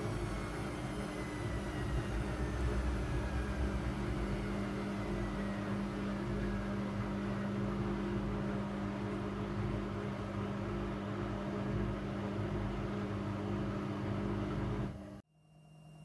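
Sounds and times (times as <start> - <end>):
washing machine spinning: 0.0 - 15.2.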